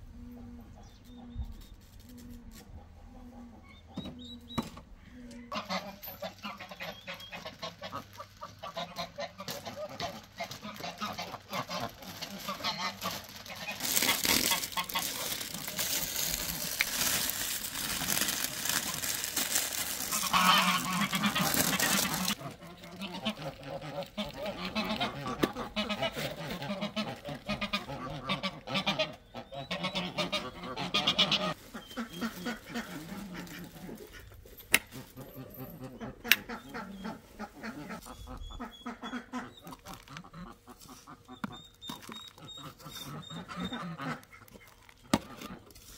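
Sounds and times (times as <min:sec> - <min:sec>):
rustling and scraping of pots: 0:00.2 - 0:45.9
goose honking: 0:05.5 - 0:34.4, 0:35.0 - 0:41.4, 0:42.4 - 0:44.7.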